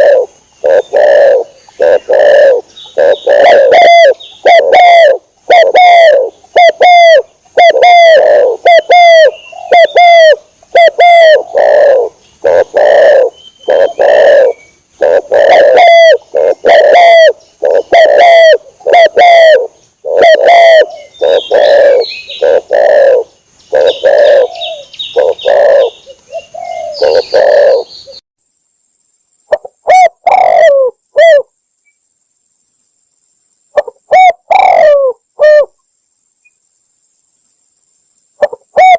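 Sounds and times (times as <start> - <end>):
dove cooing: 0.0 - 28.2, 29.5 - 31.5, 33.8 - 35.8, 38.4 - 38.9.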